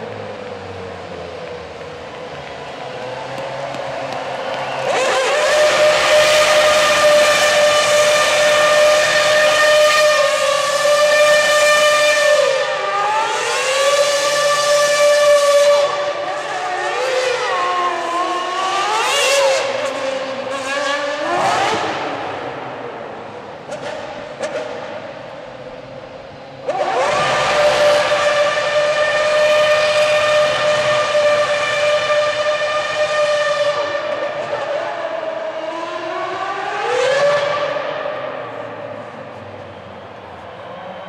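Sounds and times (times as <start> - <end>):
tyres spinning in a burnout: 0.0 - 22.4, 26.6 - 41.0
race car engine revving: 0.0 - 41.0.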